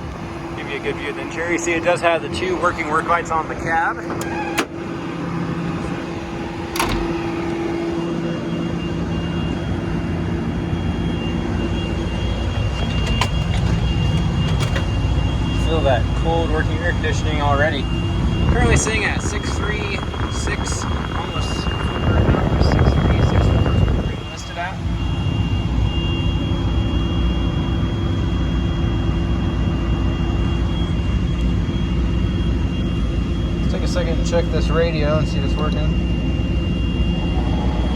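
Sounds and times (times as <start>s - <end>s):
air-conditioning blower: 0.0s - 37.9s
diesel engine running: 0.0s - 37.9s
thin high whine: 0.0s - 37.9s.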